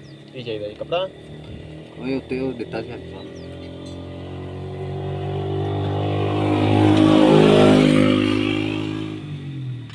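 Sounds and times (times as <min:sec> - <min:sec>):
vehicle engine passing by: 0:00.0 - 0:09.9.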